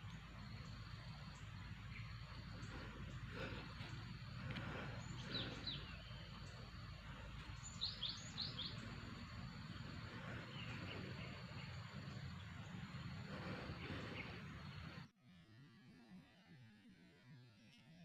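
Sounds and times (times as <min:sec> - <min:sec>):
small bird chirping: 0:00.0 - 0:15.0
insect drone: 0:00.0 - 0:15.1.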